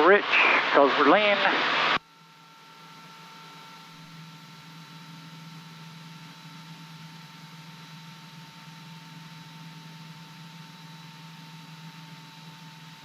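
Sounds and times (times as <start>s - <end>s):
thin high whine tones: 0.0s - 13.0s.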